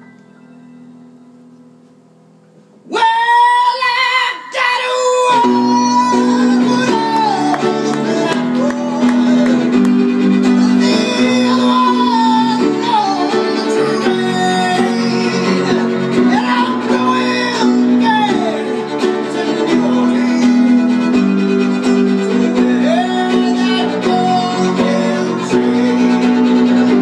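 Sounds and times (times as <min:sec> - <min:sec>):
piano accompaniment: 0:00.0 - 0:02.8, 0:05.3 - 0:27.0
violin solo with sliding notes: 0:05.2 - 0:27.0.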